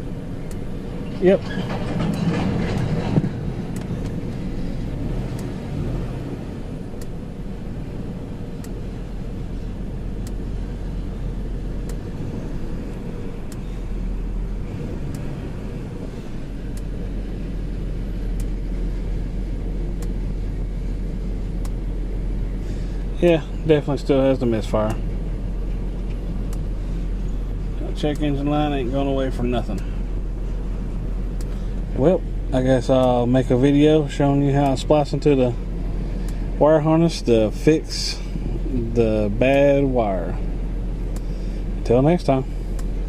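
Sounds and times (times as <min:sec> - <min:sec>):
car engine rumbling: 0:00.0 - 0:43.0
faint engine tick: 0:00.2 - 0:00.7, 0:03.7 - 0:43.0.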